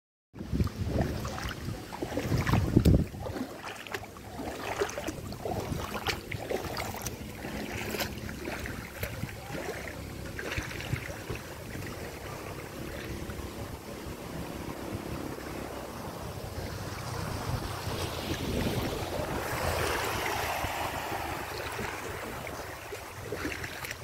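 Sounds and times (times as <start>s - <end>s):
footsteps splashing through water: 0.4s - 13.4s, 16.7s - 24.0s
wind buffeting microphone: 0.4s - 24.0s.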